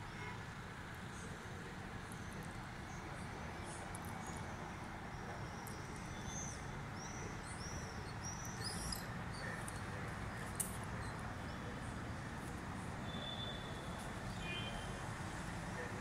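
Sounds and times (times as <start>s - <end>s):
urban background hum: 0.0s - 16.0s.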